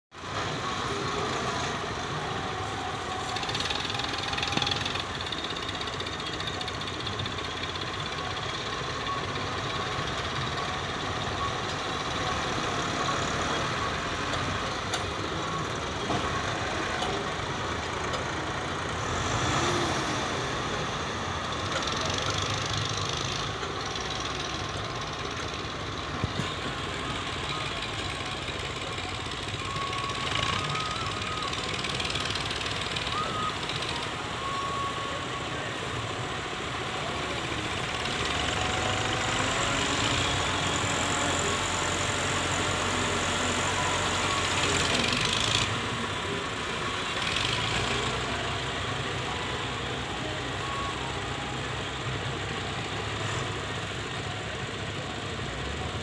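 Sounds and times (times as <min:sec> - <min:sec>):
tractor diesel engines running: 0:00.1 - 0:56.0.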